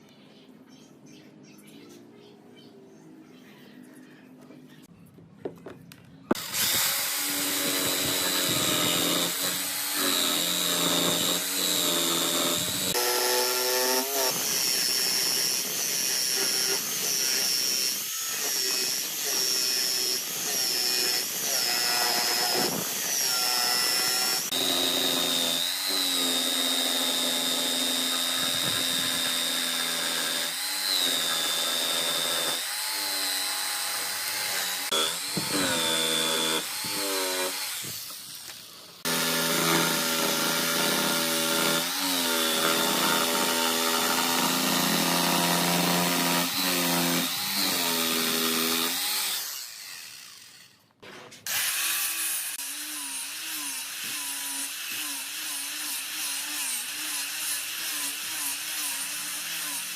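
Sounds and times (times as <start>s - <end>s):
electric power tool cutting wood: 6.3s - 50.8s, 51.5s - 59.9s.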